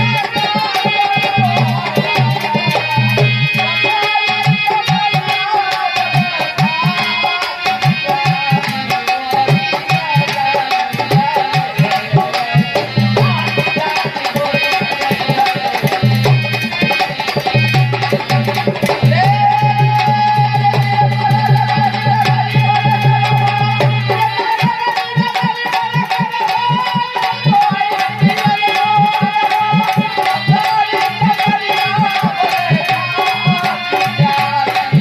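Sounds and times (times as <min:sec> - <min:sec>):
dholak drumming: 0:00.0 - 0:35.0.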